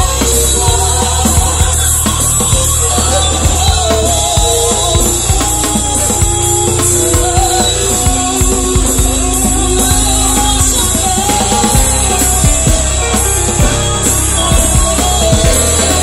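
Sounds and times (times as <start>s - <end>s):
bass: 0.0s - 16.0s
drum kit beat: 0.0s - 16.0s
keyboard: 0.0s - 16.0s
woman singing: 0.0s - 16.0s.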